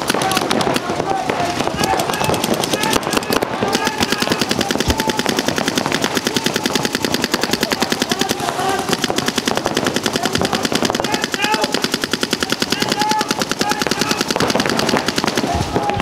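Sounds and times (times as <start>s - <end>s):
paintball markers firing rapidly: 0.0s - 16.0s.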